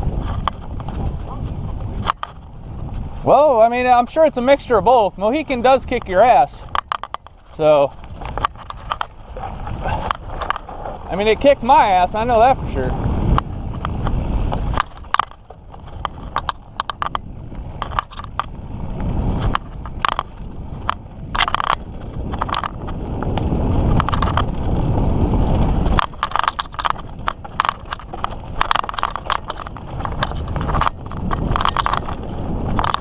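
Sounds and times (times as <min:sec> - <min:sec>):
bike clicks and rattles: 0:00.0 - 0:03.4, 0:05.3 - 0:33.0
bike rumbling on dirt trail: 0:00.0 - 0:33.0.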